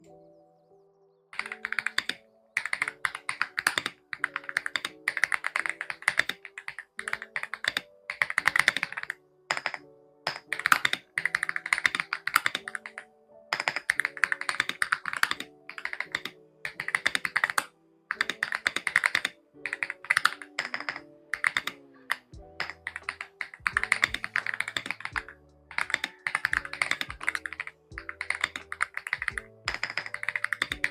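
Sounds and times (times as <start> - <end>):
background music: 0.0 - 30.9
mechanical keyboard key clacks: 1.4 - 13.0, 13.6 - 30.9.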